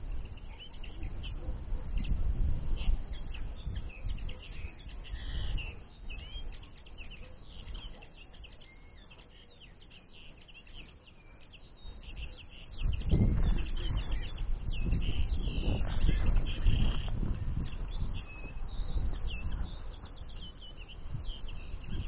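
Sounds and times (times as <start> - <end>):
birds twittering: 0.0 - 22.0.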